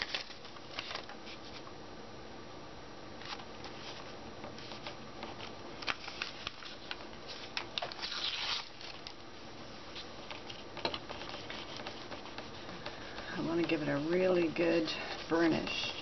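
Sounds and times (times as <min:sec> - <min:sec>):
paper rustling and rubbing: 0:00.0 - 0:01.7, 0:03.2 - 0:09.2, 0:09.9 - 0:16.0.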